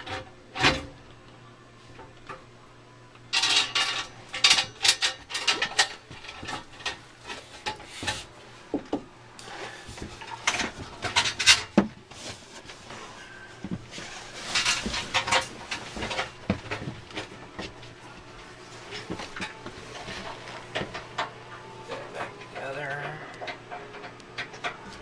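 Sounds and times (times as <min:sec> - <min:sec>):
objects knocking and clattering: 0:03.3 - 0:18.0, 0:18.8 - 0:25.0.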